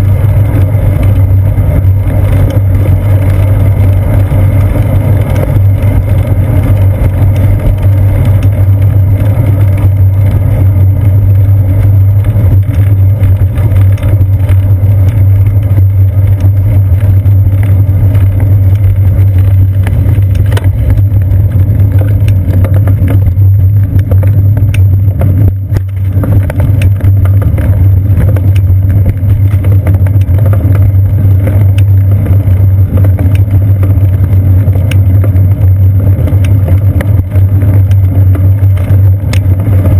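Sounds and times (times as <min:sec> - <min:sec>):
camera mount vibration rumble: 0:00.0 - 0:39.9
small ticks from bumps: 0:00.4 - 0:39.9.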